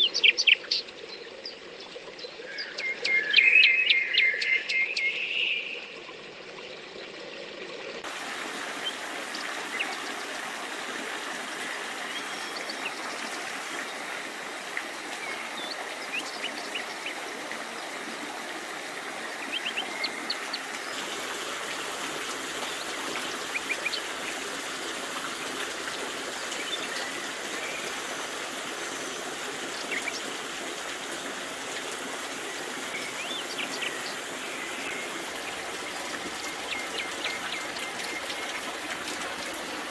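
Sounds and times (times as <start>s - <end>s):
brook running: 0.0s - 39.9s
water trickling from overhang: 0.0s - 39.9s.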